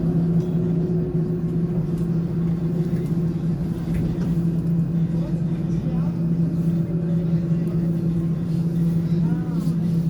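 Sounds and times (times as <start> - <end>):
tram hum: 0.0 - 10.0.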